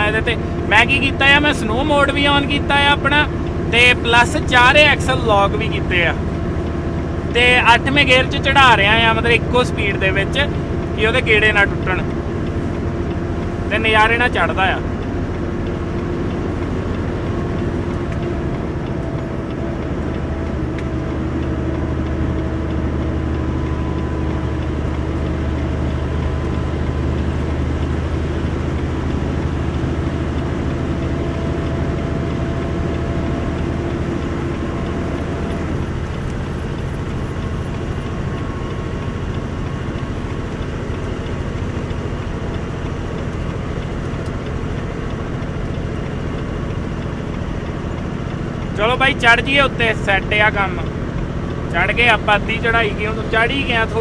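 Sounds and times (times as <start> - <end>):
truck diesel engine under load: 0.0 - 54.0.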